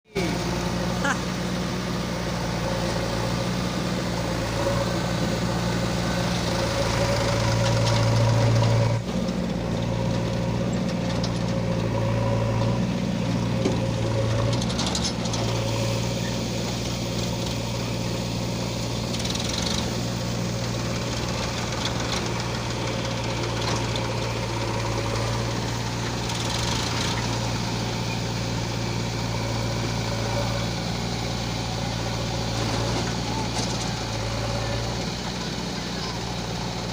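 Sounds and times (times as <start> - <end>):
heavy diesel engine running: 0.0 - 36.9.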